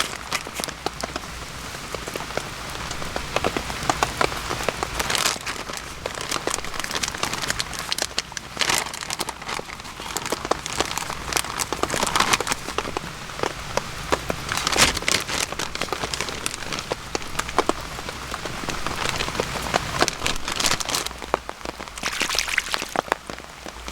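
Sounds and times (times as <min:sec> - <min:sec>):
rain falling: 0:00.0 - 0:23.9.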